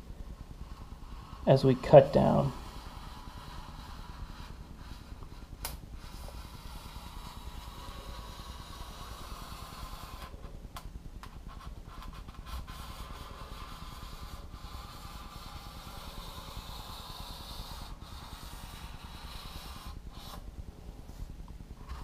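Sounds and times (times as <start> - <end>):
razor blade scraping foam: 0.3 - 10.4, 11.4 - 20.4.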